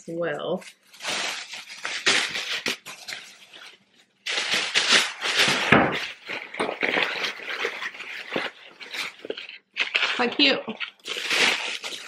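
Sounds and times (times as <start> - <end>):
tissue paper rustling and crinkling: 0.4 - 12.0.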